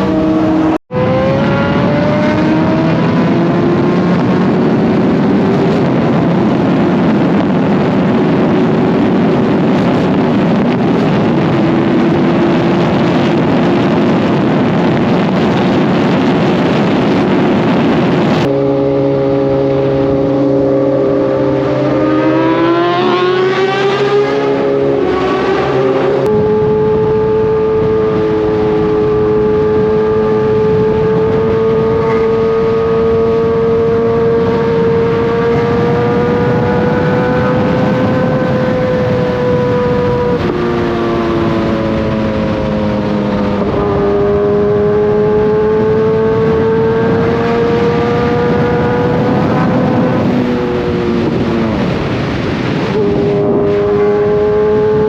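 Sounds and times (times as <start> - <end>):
motorcycle engine revving: 0.0 - 55.0
wind rush: 0.0 - 55.0.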